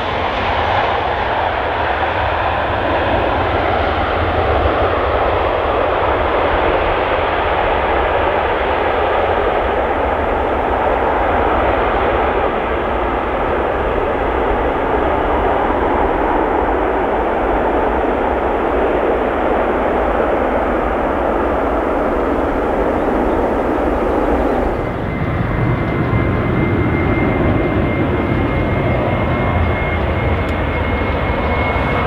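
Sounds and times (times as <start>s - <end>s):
aircraft engines droning: 0.0s - 32.0s.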